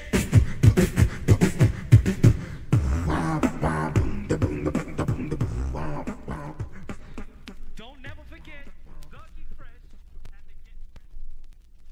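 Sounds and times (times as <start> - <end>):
pitched vocal tones: 0.0 - 9.8
beatboxing beat: 0.0 - 11.9.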